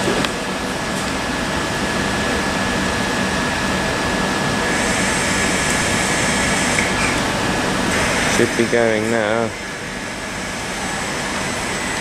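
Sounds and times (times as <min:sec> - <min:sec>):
electric train humming and whining: 0:00.0 - 0:12.0.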